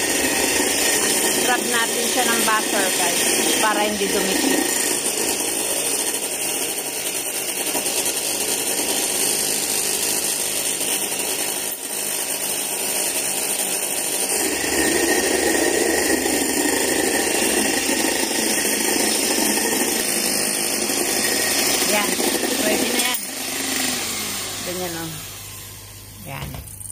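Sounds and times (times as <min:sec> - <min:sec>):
electric hand mixer whipping: 0:00.0 - 0:26.9.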